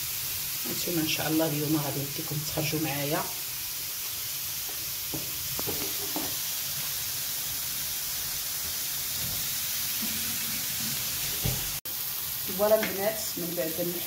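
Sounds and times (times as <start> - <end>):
chicken sizzling on griddle: 0.0 - 14.0.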